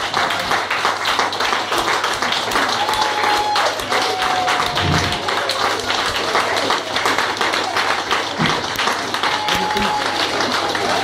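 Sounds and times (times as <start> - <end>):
people clapping: 0.0 - 11.0.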